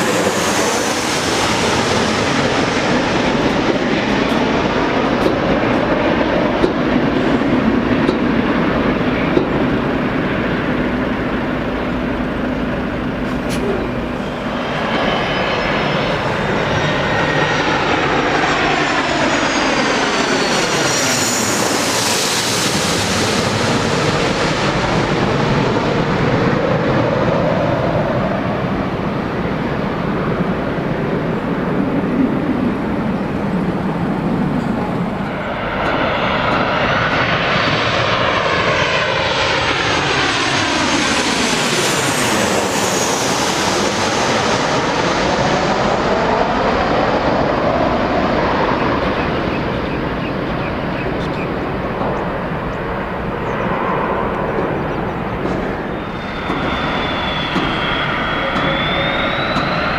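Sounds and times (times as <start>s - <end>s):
jet airliner passing: 0.0s - 59.9s.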